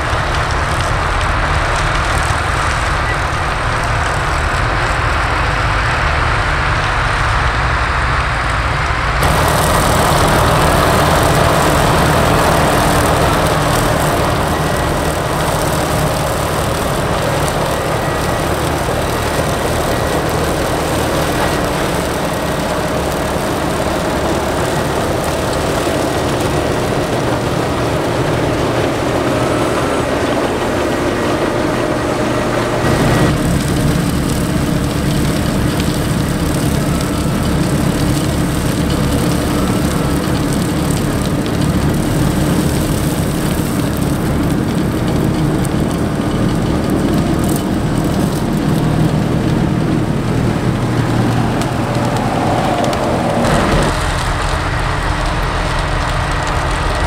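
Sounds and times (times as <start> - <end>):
harvester machine noise: 0.0 - 57.0
low engine drone: 0.0 - 57.0.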